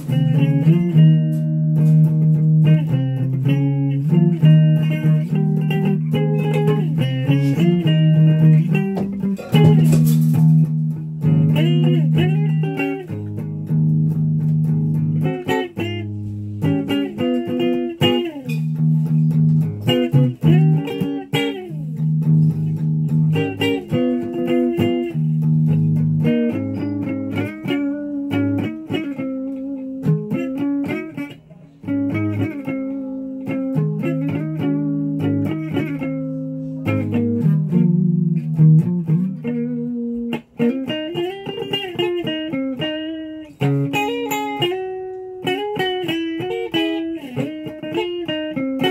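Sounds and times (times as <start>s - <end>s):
electric guitar solo: 0.0s - 48.9s.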